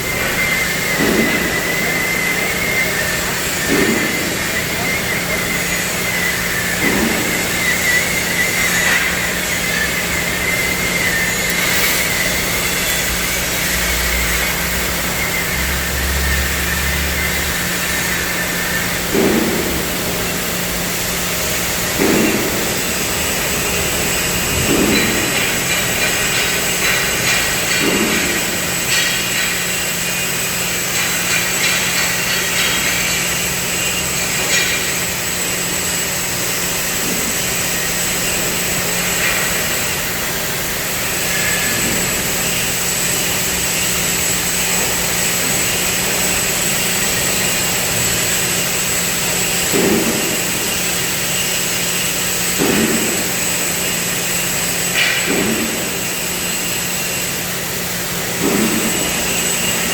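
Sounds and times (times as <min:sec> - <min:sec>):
constant machine hum: 0:00.0 - 0:59.9
loud hiss: 0:00.0 - 0:59.9.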